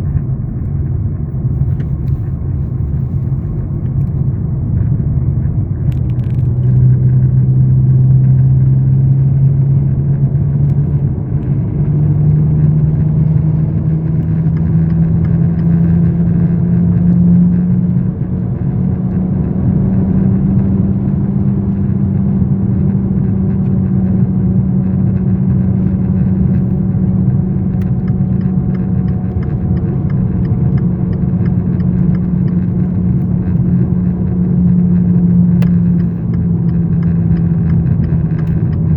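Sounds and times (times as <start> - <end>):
low rumble: 0.0 - 38.9
vehicle humming drone: 0.0 - 38.9.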